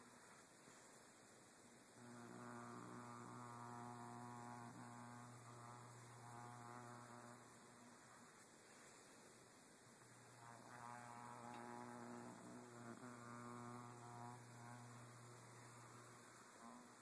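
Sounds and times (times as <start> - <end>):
electrical buzz from laptop lid: 1.9 - 8.9, 10.0 - 17.0.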